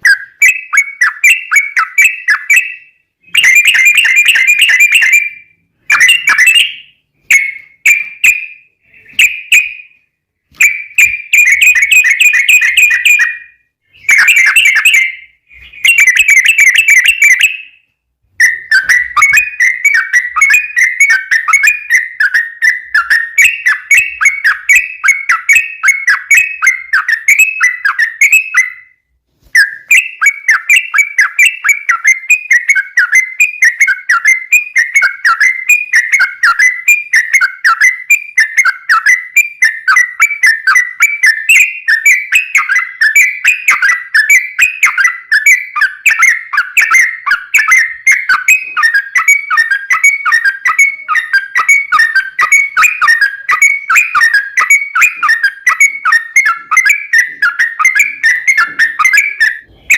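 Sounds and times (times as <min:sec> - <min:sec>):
bird singing bubbling whistled song: 0:00.0 - 0:10.0, 0:10.6 - 0:29.0, 0:29.6 - 0:59.9.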